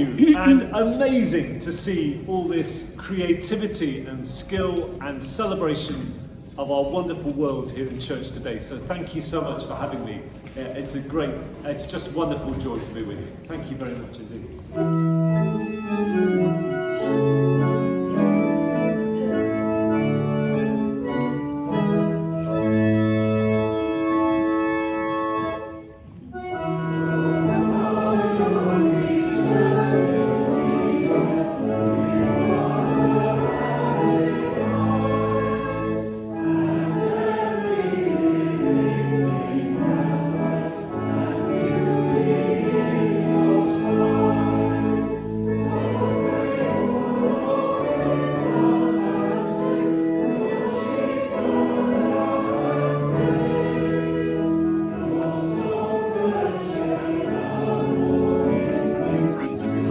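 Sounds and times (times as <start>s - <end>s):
church organ: 0.0s - 59.9s
congregation singing a hymn: 10.8s - 59.9s.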